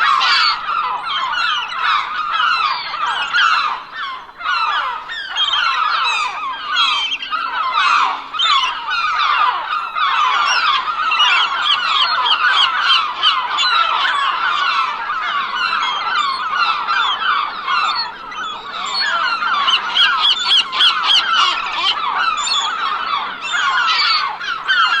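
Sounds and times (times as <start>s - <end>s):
flock of seagulls calling: 0.0s - 25.0s.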